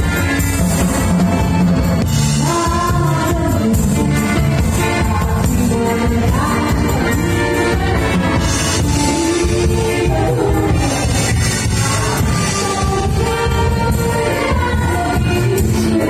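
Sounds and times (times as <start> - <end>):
live band playing disco: 0.0 - 16.0
woman singing into microphone: 2.4 - 16.0.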